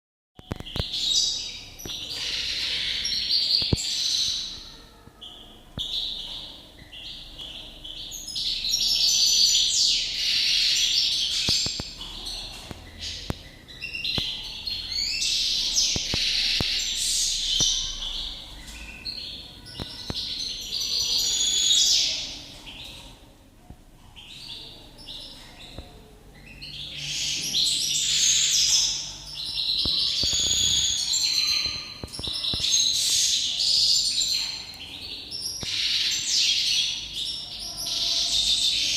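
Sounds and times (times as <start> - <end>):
bird twittering song: 0.4 - 23.3, 24.2 - 38.9.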